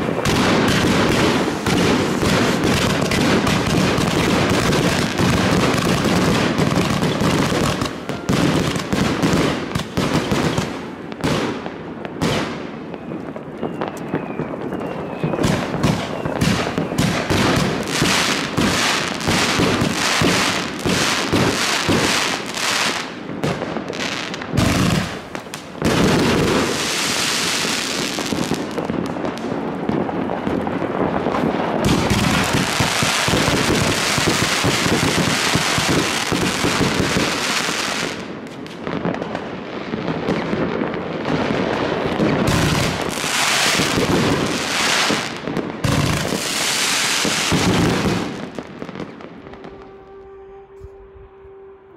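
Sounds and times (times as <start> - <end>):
firework crackling hiss: 0.0 - 11.7, 15.4 - 50.1
firework shots firing: 0.0 - 39.4, 40.1 - 49.6.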